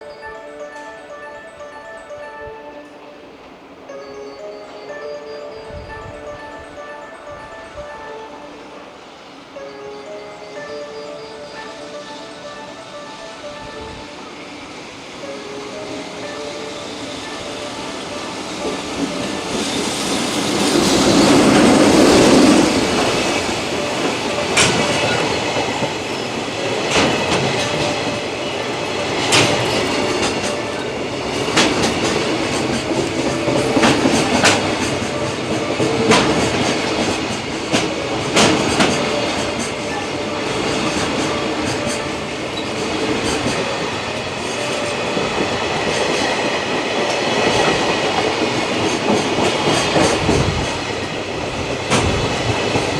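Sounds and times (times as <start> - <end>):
train rumble: 0.0 - 52.9
wheels clacking over rail joints: 9.6 - 52.9.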